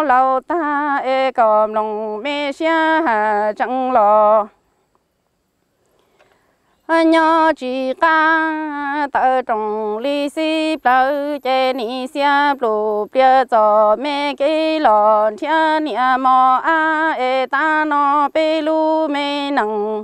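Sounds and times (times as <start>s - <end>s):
person chanting sung poetry: 0.0s - 4.6s, 6.9s - 20.0s.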